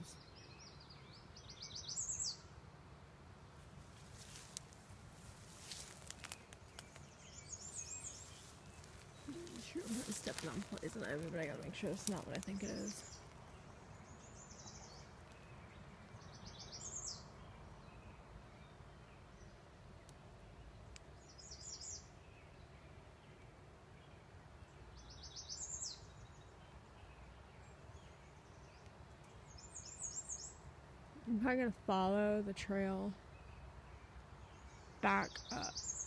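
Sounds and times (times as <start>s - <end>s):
low steady background noise: 0.0s - 36.0s
songbird song: 0.0s - 36.0s.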